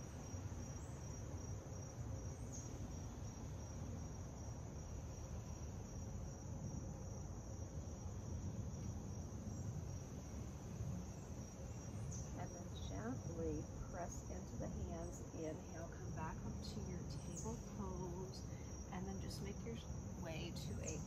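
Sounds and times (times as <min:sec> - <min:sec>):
high-pitched insect trill: 0:00.0 - 0:21.0.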